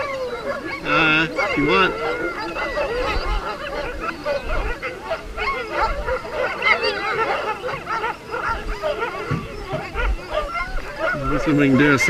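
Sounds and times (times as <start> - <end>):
sled dogs yipping and howling: 0.0 - 12.0.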